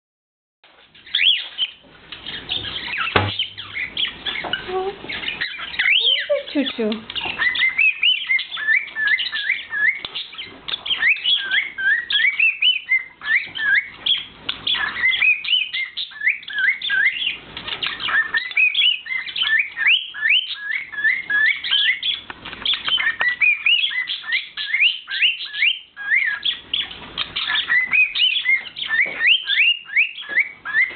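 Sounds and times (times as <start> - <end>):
cockatiels whistling and chirping: 0.9 - 30.9.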